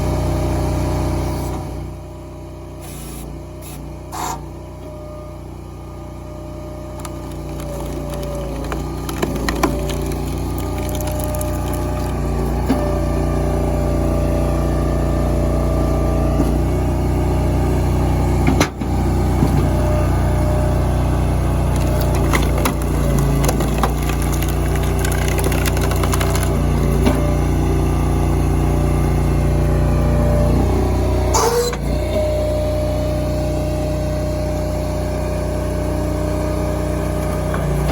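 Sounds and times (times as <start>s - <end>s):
log splitter engine running: 0.0s - 37.9s.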